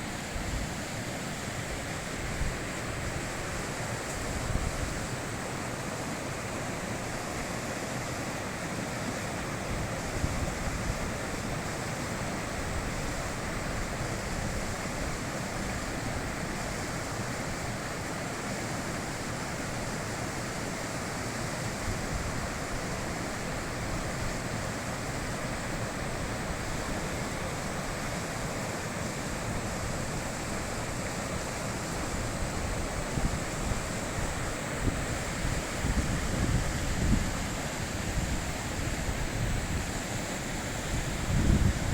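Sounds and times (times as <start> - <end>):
river rushing: 0.0 - 41.9.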